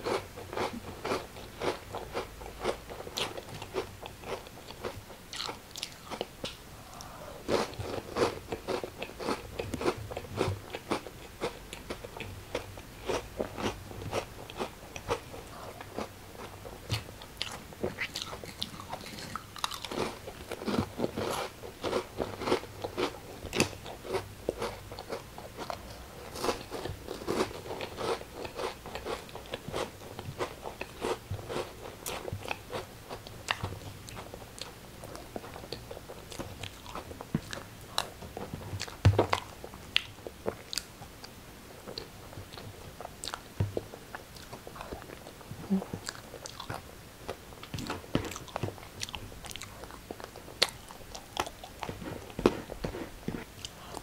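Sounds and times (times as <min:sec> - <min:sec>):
person chewing crunchy food: 0:00.0 - 0:41.3, 0:41.9 - 0:54.0.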